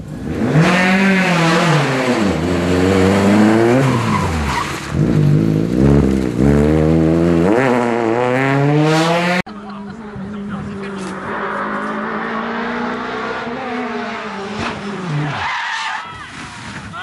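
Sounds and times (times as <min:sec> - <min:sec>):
rally car engine revving: 0:00.0 - 0:15.8.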